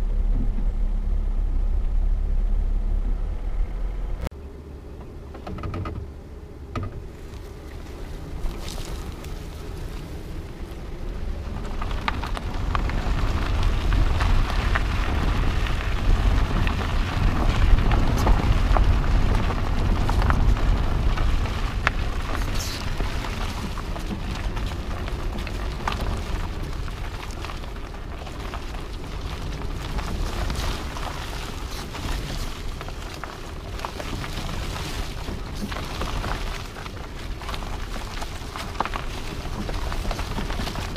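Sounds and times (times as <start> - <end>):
car tyres rolling over gravel: 0.0 - 40.9.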